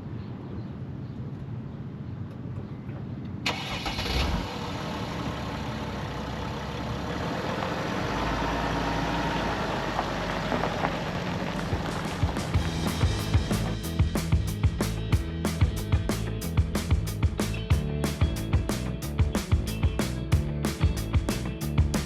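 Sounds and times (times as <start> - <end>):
van engine starting and running: 3.4 - 22.0.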